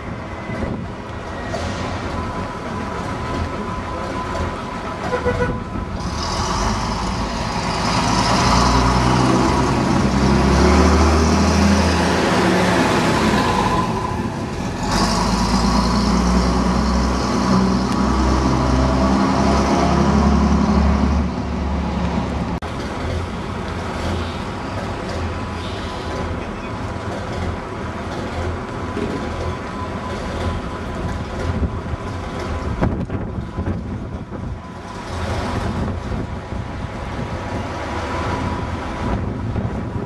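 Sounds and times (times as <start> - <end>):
bus diesel engine passing: 0.0 - 40.0.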